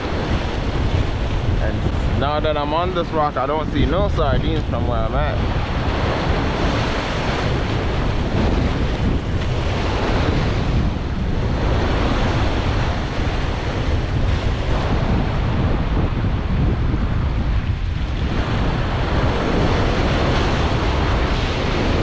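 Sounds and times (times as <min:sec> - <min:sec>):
ocean surf on rocks: 0:00.0 - 0:22.0
wind buffeting microphone: 0:00.0 - 0:22.0.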